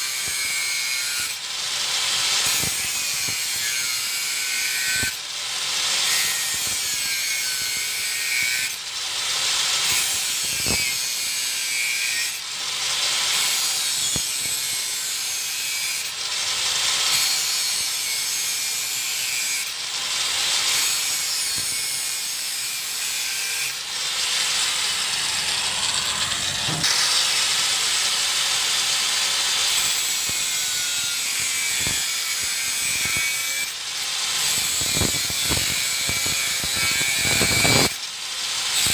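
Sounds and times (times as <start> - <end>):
angle grinder cutting steel: 0.0 - 38.9.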